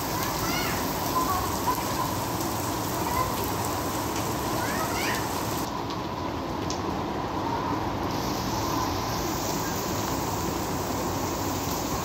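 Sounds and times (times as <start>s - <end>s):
heavy rain on deck and water: 0.0s - 12.0s.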